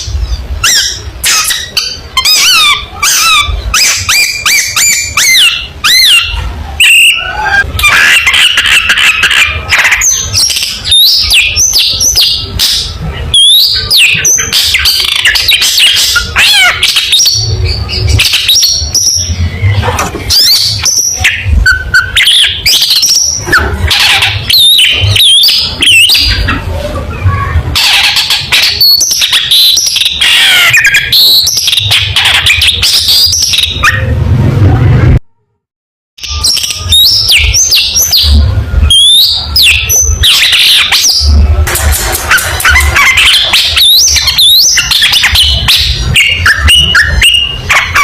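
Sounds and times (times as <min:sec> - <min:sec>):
bird singing varied song: 0:00.0 - 0:34.1, 0:36.2 - 0:41.6, 0:42.2 - 0:48.0.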